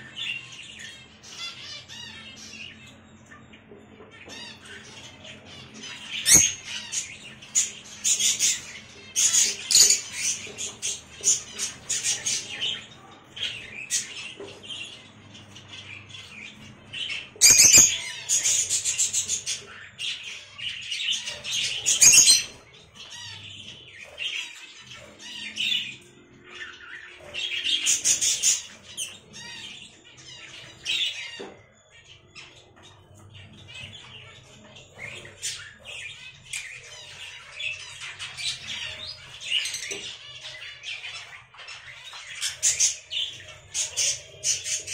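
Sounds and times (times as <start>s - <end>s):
lovebirds squawking and chirping: 0.0s - 44.9s.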